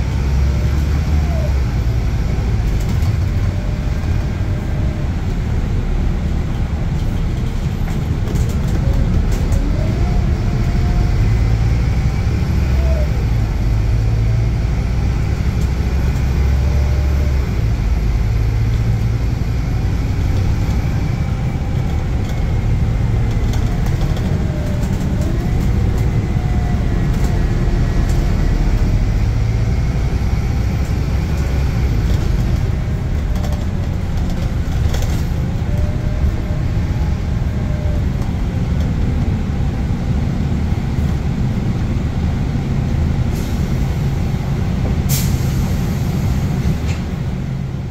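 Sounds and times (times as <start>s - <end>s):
bus engine and road noise: 0.0s - 47.9s.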